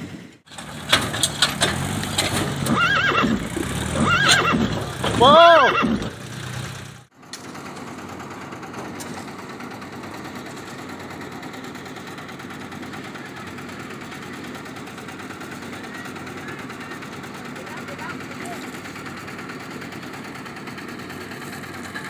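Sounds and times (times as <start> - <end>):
concrete mixer engine running: 0.0 - 22.0.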